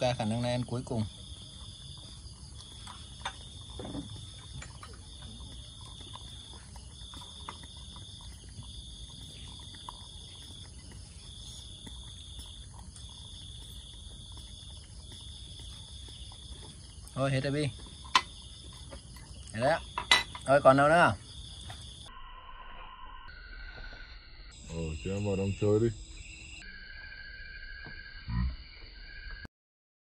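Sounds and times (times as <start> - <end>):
insects trilling: 0.0 - 29.5.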